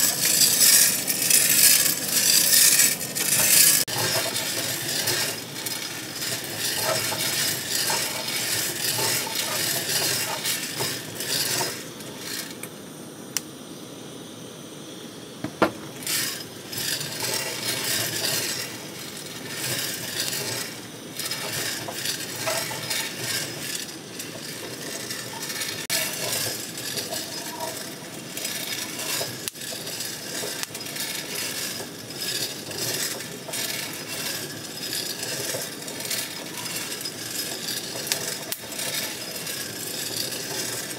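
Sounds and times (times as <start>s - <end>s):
coffee beans rattling in drum: 0.0s - 12.6s, 15.5s - 40.9s.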